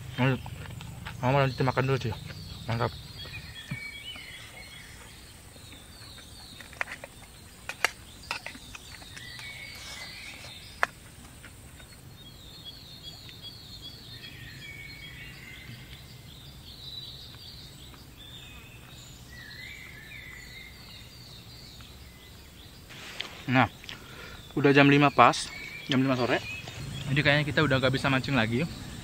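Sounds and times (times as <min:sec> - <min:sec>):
birds chirping: 0:00.0 - 0:29.0
high insect drone: 0:00.0 - 0:29.0.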